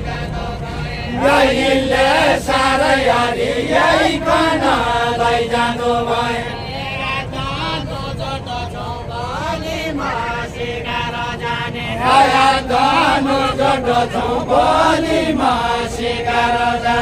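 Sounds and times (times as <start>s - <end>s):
voices chanting folk melody: 0.0s - 17.0s.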